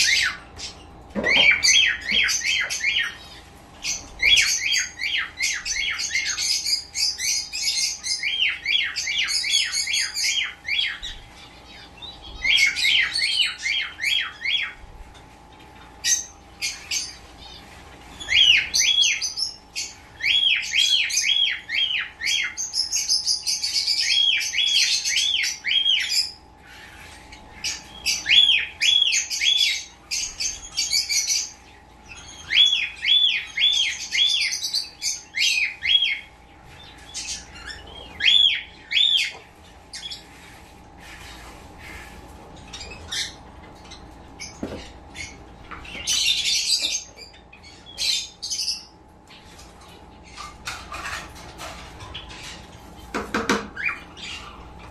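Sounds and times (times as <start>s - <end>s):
pet birds chirping: 0.0s - 54.9s.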